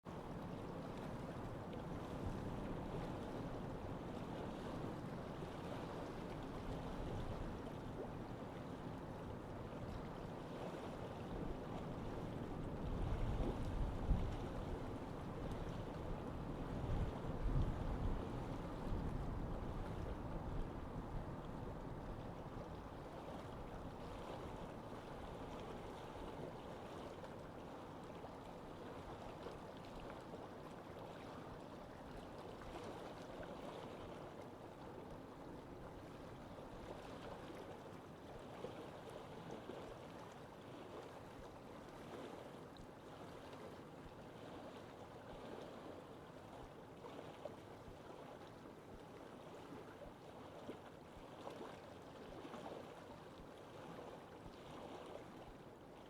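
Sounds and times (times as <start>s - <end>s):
moving water: 0.0s - 56.0s
wind: 0.0s - 56.0s.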